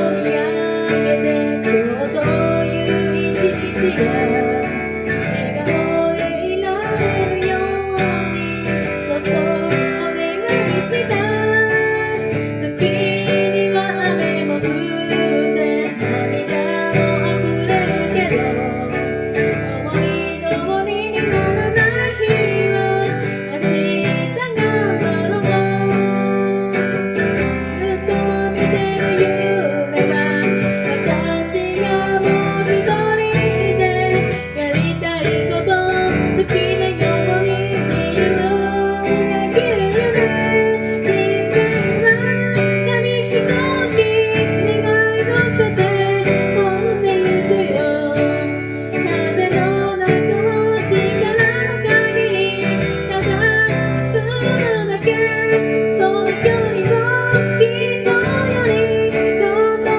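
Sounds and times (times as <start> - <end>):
person singing: 0.0 - 59.9
strummed acoustic guitar: 0.0 - 59.9.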